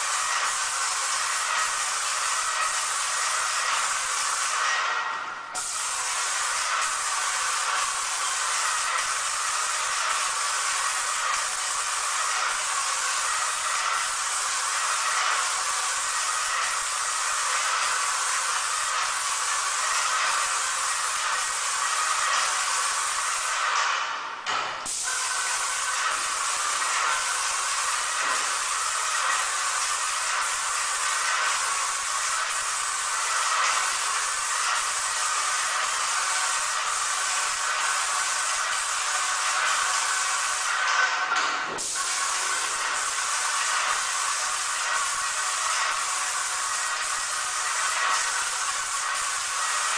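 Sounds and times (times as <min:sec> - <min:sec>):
paint spray gun hissing: 0:00.0 - 0:04.9, 0:05.6 - 0:23.8, 0:24.8 - 0:49.9.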